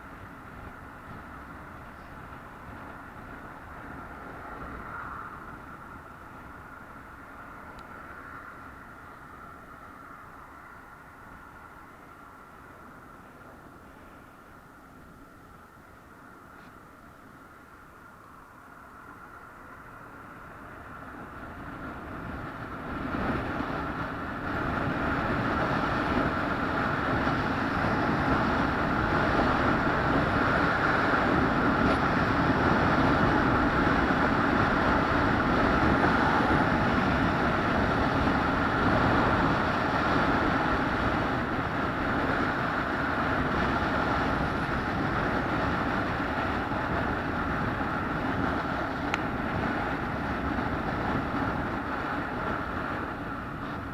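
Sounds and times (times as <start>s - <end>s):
moving vehicle running noise: 0.0s - 53.9s.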